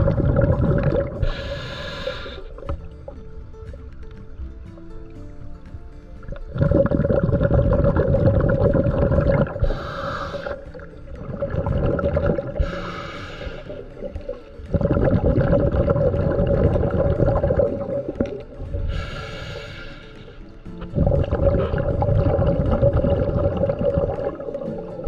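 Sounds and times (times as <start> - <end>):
hissing inhalations through regulator: 0.0 - 3.2, 6.2 - 25.0
exhaled bubbles rumbling: 0.0 - 4.6, 6.2 - 19.2, 20.7 - 25.0.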